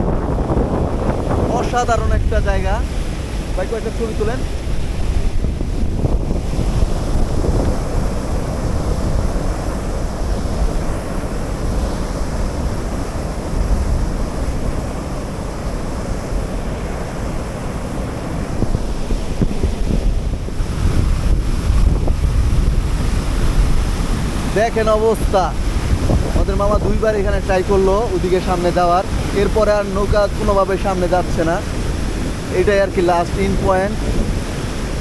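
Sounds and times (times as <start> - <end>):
rushing water: 0.0 - 35.0
wind buffeting microphone: 0.0 - 35.0.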